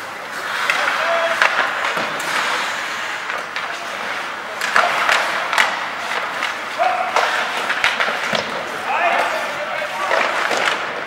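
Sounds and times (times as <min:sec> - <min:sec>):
hockey sticks and puck clacking: 0:00.0 - 0:11.0
skate blades scraping ice: 0:00.0 - 0:11.0
players calling out: 0:00.4 - 0:10.8.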